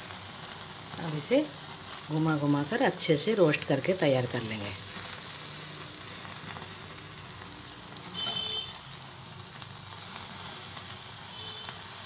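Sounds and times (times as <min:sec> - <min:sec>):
gas flame hissing: 0:00.0 - 0:12.0
vegetables sizzling: 0:00.0 - 0:12.0.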